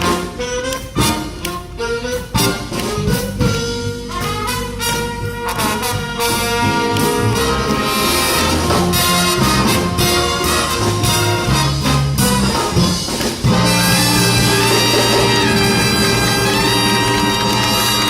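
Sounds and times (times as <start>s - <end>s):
big band playing jazz: 0.0s - 18.0s.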